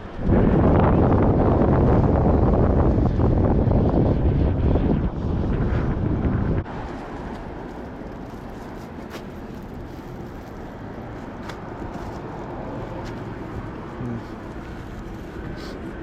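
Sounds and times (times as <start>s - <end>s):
outdoor background rumble: 0.0s - 16.0s
wind buffeting microphone: 0.0s - 16.0s.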